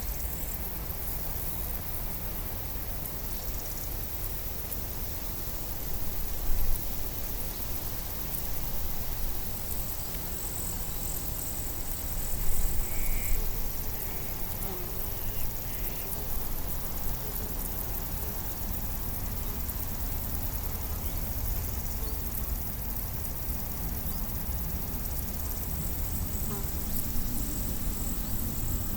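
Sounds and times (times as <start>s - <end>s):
low rumble and hiss: 0.0s - 28.9s.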